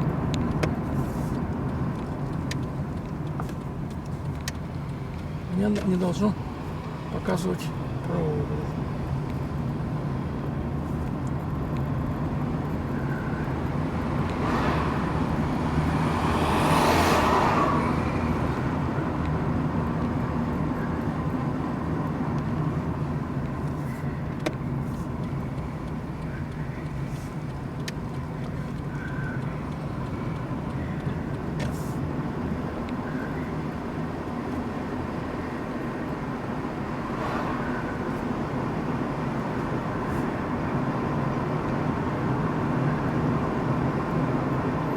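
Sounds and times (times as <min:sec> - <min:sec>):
car engine and tyre hum: 0:00.0 - 0:44.9.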